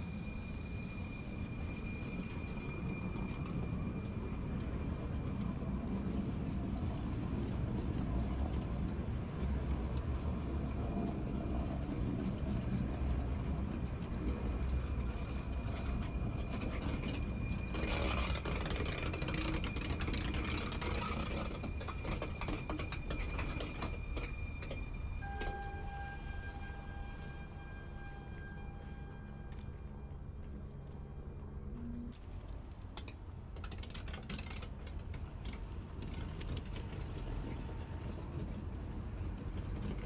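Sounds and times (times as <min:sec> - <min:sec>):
low hum: 0:00.0 - 0:33.7
train machinery whir: 0:00.0 - 0:40.0.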